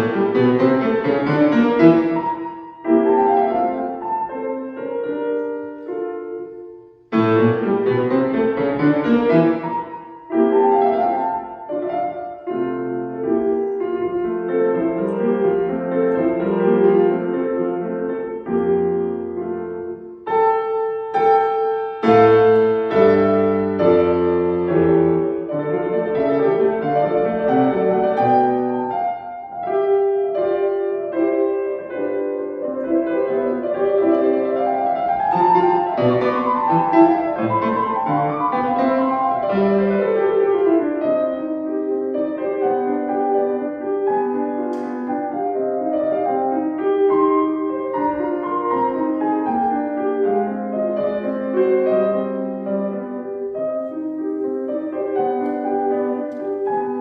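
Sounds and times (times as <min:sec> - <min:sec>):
solo classical piano: 0:00.0 - 0:57.0.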